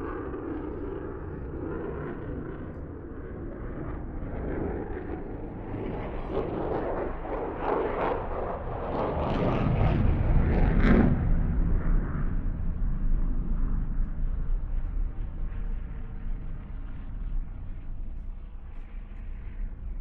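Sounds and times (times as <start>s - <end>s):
distant jet engine roar: 0.0s - 20.0s.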